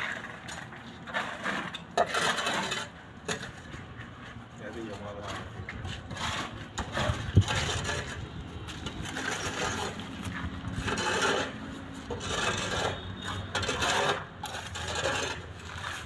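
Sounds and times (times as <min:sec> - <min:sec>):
scraping and rubbing: 0:00.0 - 0:16.0.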